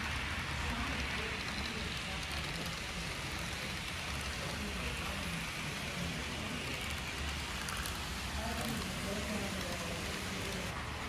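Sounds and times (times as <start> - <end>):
model train wheels hissing on track: 0.0 - 11.0
faint voices: 0.5 - 10.9.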